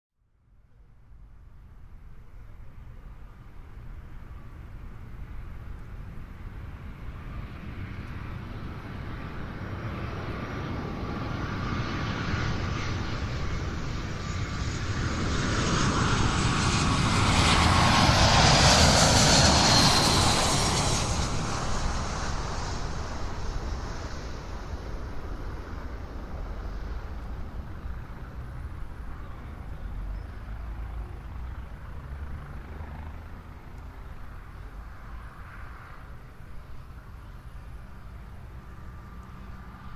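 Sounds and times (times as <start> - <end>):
airliner flying over: 1.2 - 39.9.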